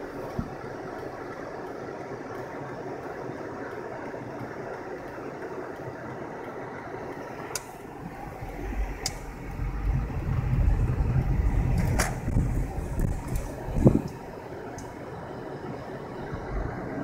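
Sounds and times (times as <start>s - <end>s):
car road and cabin noise: 0.0s - 17.0s.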